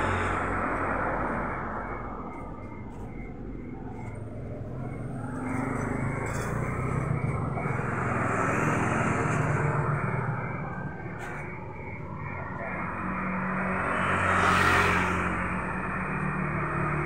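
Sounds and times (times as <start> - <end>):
vehicle passing by: 0.0 - 2.6, 3.8 - 17.0.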